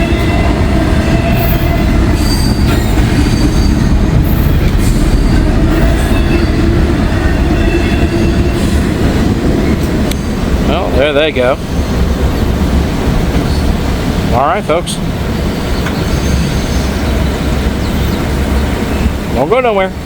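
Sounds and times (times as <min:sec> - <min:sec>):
high wheel squeals: 0:00.0 - 0:13.8, 0:14.4 - 0:19.7
freight train rumbling past: 0:00.0 - 0:20.0.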